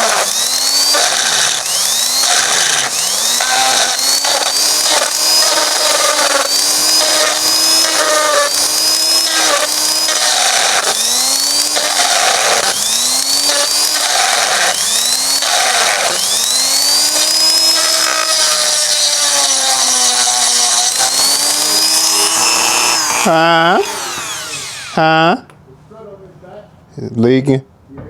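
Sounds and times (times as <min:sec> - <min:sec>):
power tool motor whining: 0:00.0 - 0:25.4.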